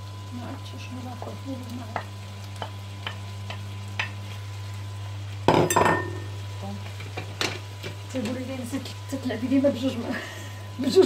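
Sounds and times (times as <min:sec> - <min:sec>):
food sizzling in frying pan: 0:00.0 - 0:11.0
steady hum: 0:00.0 - 0:11.0.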